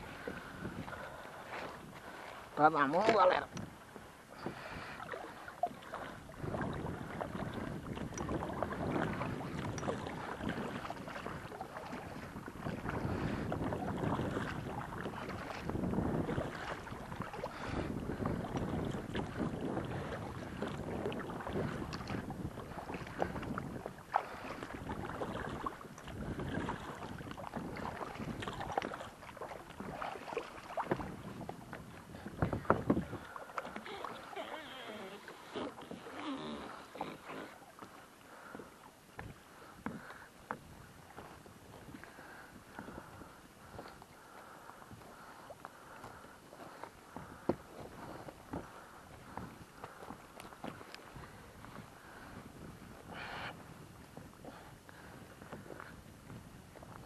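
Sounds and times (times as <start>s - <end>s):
water splashing against kayak: 0.0s - 57.0s
wind on microphone: 0.0s - 57.0s.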